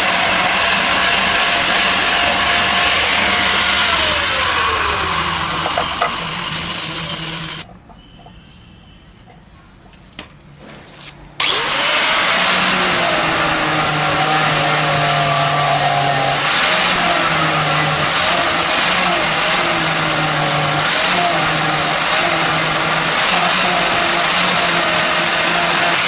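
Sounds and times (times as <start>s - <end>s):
electric grinder grinding metal: 0.0s - 7.6s, 11.4s - 26.0s.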